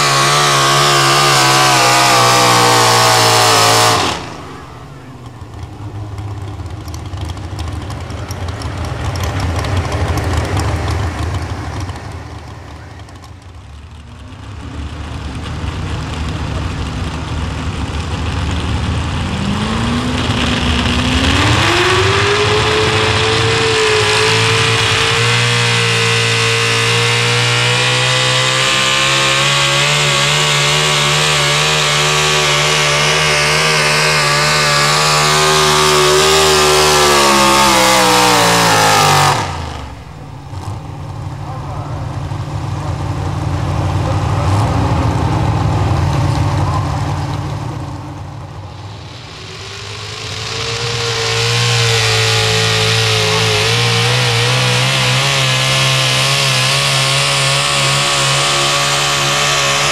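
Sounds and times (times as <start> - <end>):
truck engine revving at full throttle: 0.0 - 59.9.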